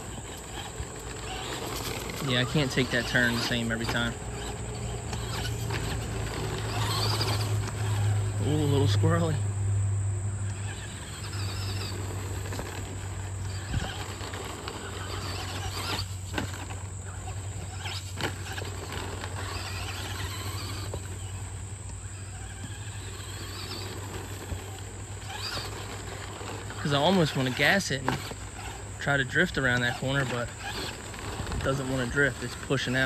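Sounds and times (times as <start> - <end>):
insects buzzing: 0.0 - 33.0
rc truck electric motor whining: 0.0 - 33.0
tyres on loose dirt: 0.0 - 33.0.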